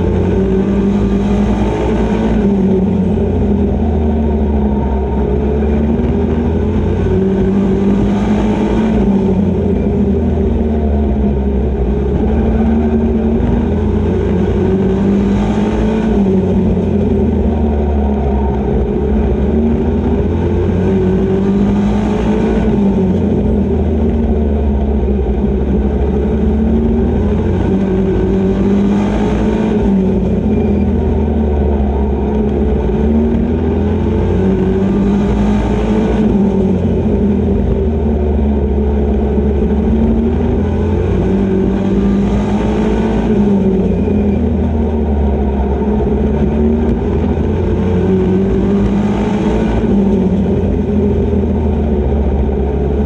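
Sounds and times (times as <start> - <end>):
race truck engine: 0.0 - 53.0.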